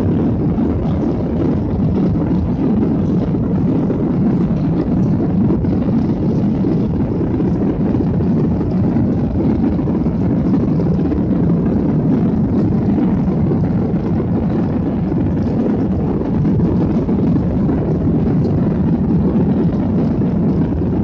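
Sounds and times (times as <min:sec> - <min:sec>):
jet engines droning: 0:00.0 - 0:21.0
rushing air: 0:00.0 - 0:21.0.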